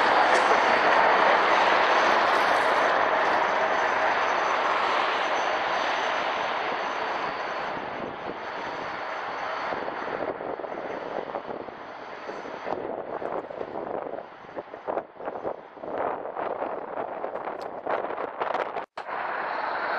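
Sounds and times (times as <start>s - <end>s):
faint high whine: 0.0s - 15.8s, 19.0s - 19.9s
tram rolling on rails: 0.0s - 19.9s.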